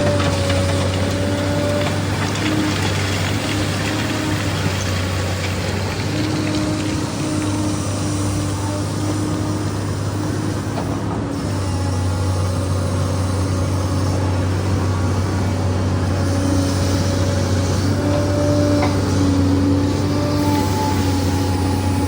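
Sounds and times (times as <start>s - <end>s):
engine whine: 0.0s - 22.0s
excavator diesel engine running: 0.0s - 22.0s.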